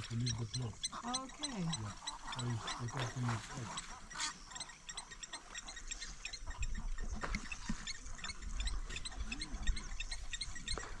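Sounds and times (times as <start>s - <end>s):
plover alarm calls: 0.0s - 11.0s.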